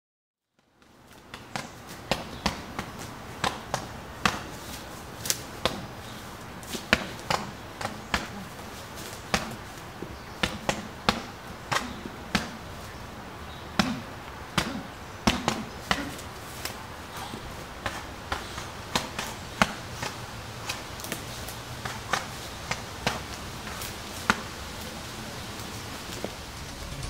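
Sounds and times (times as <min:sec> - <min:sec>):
boxing gloves punching tree trunk: 0:01.3 - 0:24.8.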